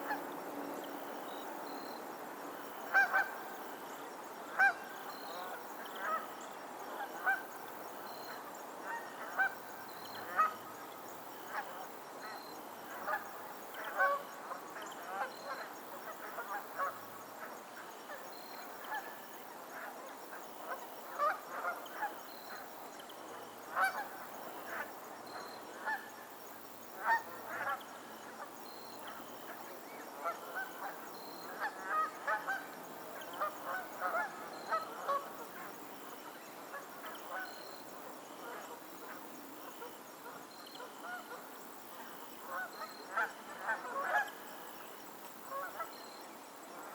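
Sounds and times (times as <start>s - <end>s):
steady background hiss: 0.0s - 46.9s.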